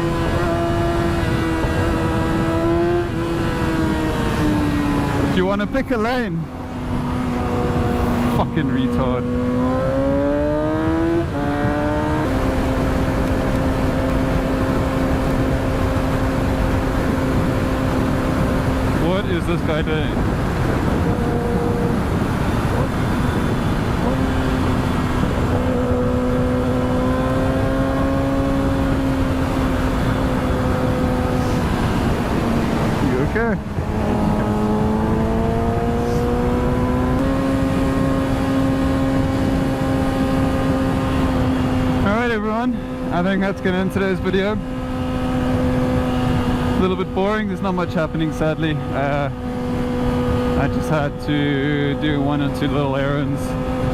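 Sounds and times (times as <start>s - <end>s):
motorcycle engine running: 0.0s - 53.9s
road rumble: 0.0s - 53.9s
wind noise: 0.0s - 53.9s.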